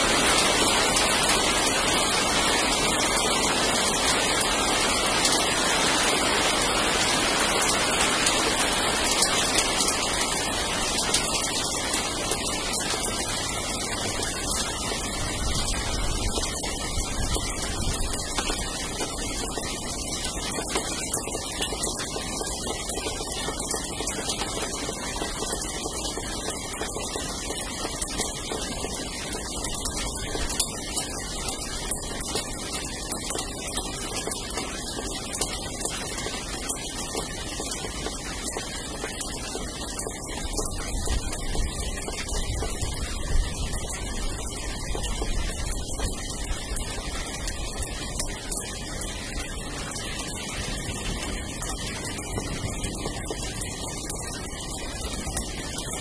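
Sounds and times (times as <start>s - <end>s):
rain falling on roofs: 0.0s - 56.0s
raindrops ticking: 0.0s - 56.0s.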